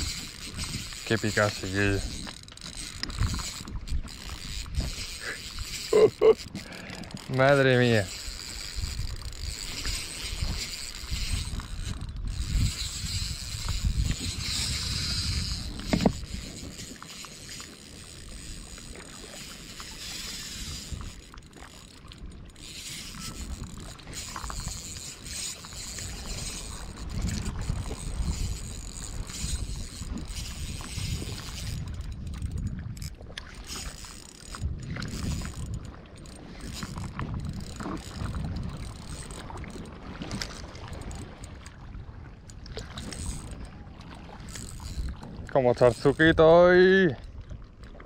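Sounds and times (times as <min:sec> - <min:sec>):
fishing reel cranking: 0:00.0 - 0:41.8, 0:42.4 - 0:47.3
wind and water rumble: 0:00.0 - 0:48.0.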